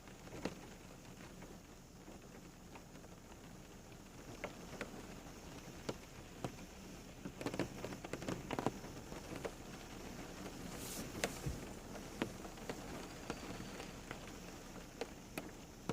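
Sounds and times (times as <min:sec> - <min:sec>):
rain falling: 0:00.0 - 0:15.9.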